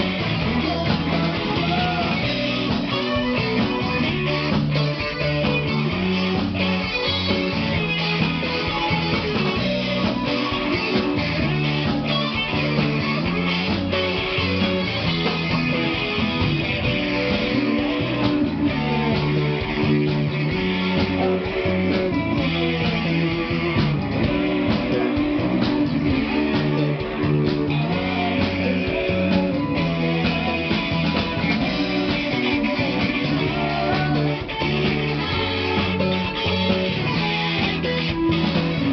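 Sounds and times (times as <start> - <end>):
electric guitar: 0.0 - 38.9
live rock band: 0.0 - 38.9.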